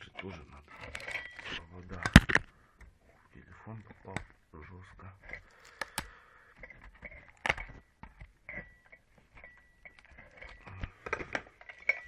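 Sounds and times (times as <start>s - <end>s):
tools and metal parts clicking: 0.0s - 3.0s, 5.2s - 12.0s.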